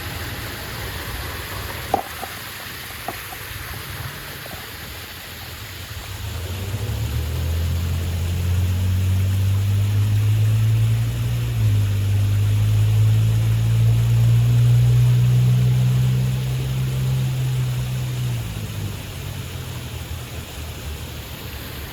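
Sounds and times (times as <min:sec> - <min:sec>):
low engine drone: 0:00.0 - 0:21.9
waterfall rushing: 0:00.0 - 0:21.9.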